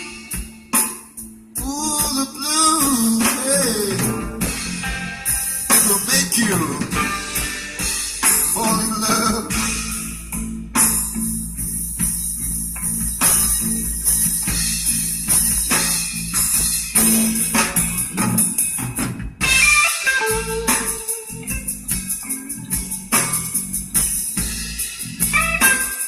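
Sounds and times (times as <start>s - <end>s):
blues music over car speakers: 0.0s - 26.0s
drum kit beat: 0.0s - 26.0s
heavy bass line: 0.0s - 26.0s.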